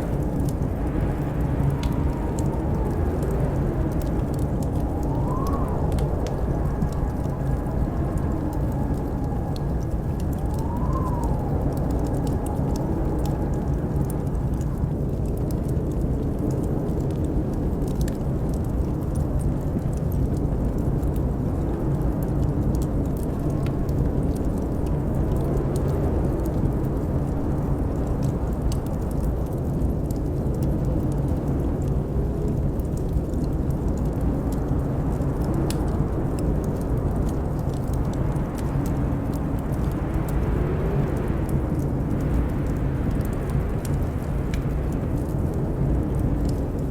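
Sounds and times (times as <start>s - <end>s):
howling blizzard wind: 0.0s - 46.9s
wood fire crackling: 0.0s - 46.9s.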